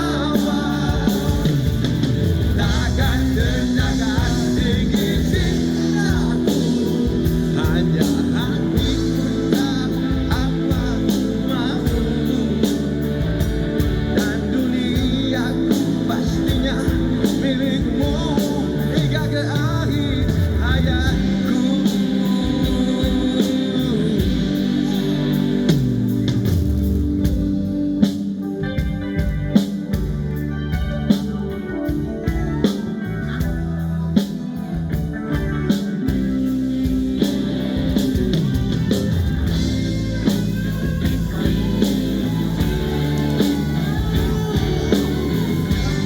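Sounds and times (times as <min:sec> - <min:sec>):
bass: 0:00.0 - 0:46.0
drums: 0:00.0 - 0:46.0
electric guitar: 0:00.0 - 0:46.0.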